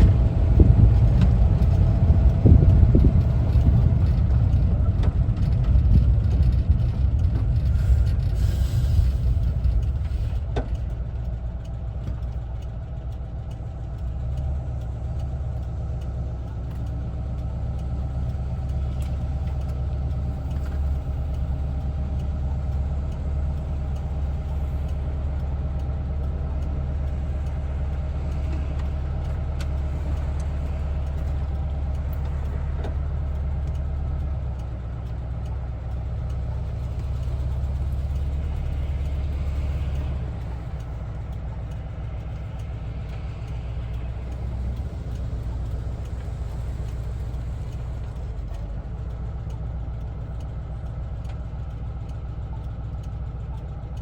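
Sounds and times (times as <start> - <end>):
van engine droning: 0.0 - 54.0.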